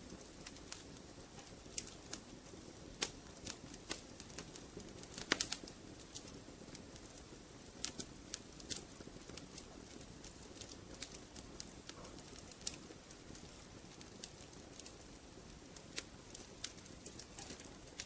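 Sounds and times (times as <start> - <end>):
low rumble of fire: 0.0 - 18.0
wood fire crackling: 0.0 - 18.0.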